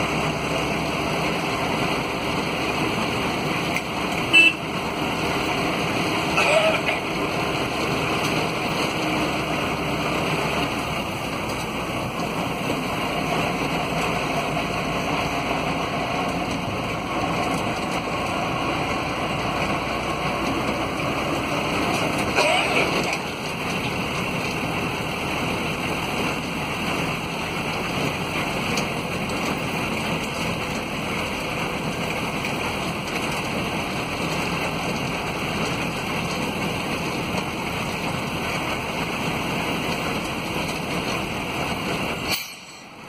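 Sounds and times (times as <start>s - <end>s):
vehicle driving on road: 0.0s - 43.0s.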